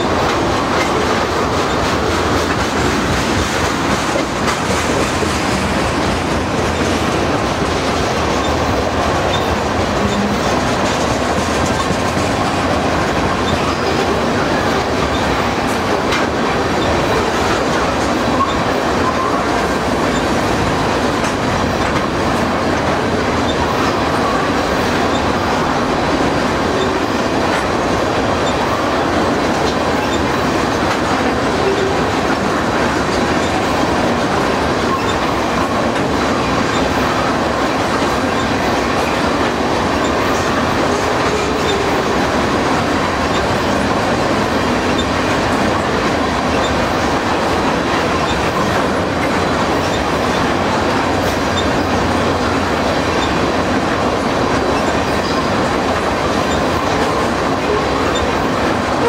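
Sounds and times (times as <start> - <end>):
steel train wheels rolling on rails: 0.0 - 59.0.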